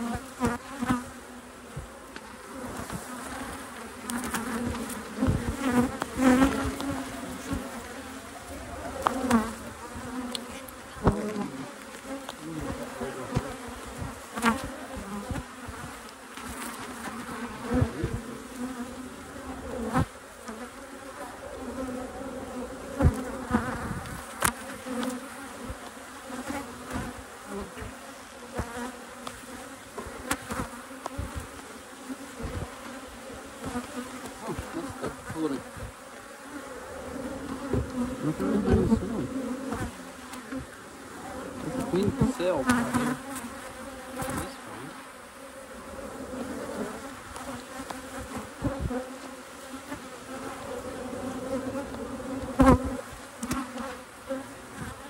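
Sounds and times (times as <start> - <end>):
honeybees buzzing: 0.0 - 55.0.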